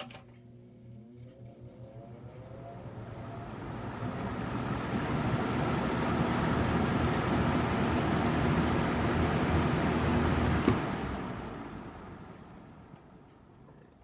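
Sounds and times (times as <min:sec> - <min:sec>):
fan air rushing: 0:00.0 - 0:14.0
fan motor whine: 0:00.0 - 0:14.0.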